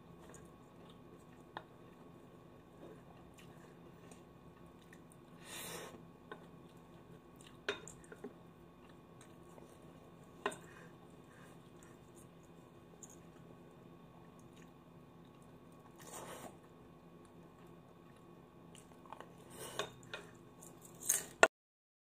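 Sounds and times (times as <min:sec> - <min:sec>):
soft chewing: 0:00.0 - 0:21.3.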